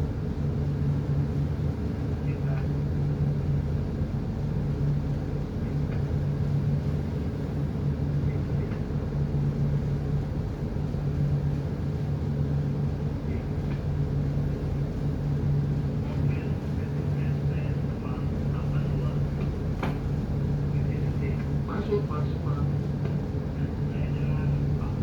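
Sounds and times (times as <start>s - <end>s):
ship engine low drone: 0.0s - 25.0s.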